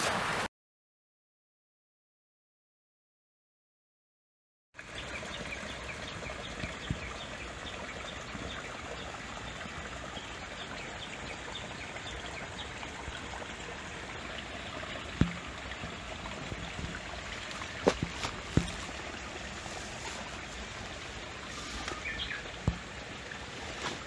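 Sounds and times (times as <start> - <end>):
running water rushing: 0.0 - 0.5, 4.8 - 24.0.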